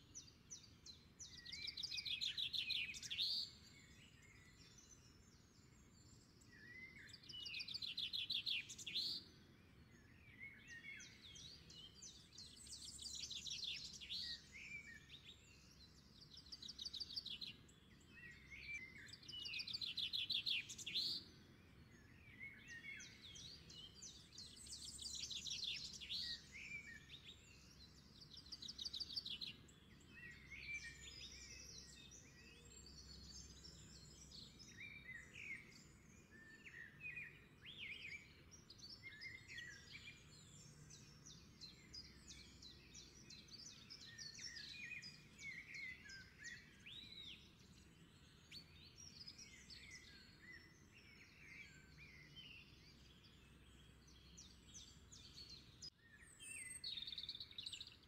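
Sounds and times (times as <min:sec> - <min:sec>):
faint birdsong: 0:00.0 - 0:58.0.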